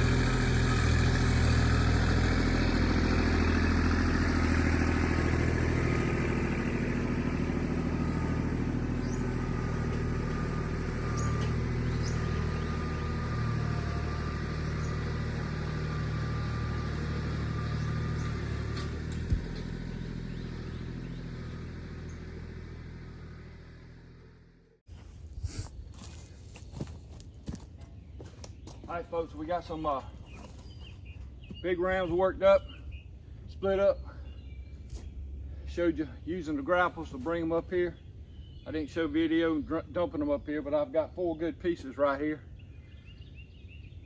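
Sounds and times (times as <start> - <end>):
engine running steadily: 0.0 - 38.6.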